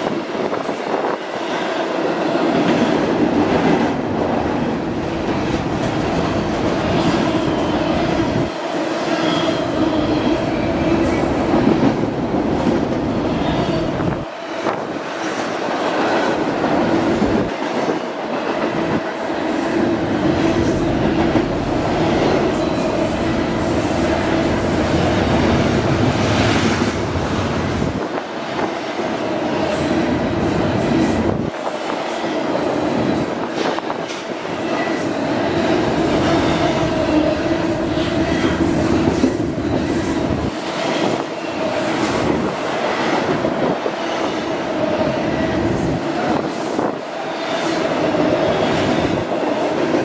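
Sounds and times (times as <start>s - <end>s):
steel wheels rumbling on rail: 0.0s - 50.0s.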